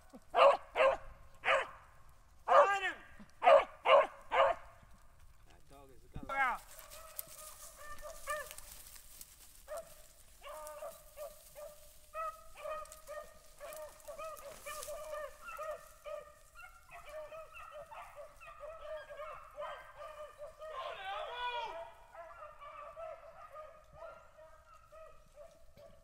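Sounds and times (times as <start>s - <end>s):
hounds baying: 0.0s - 5.0s, 6.6s - 9.0s, 9.6s - 26.0s.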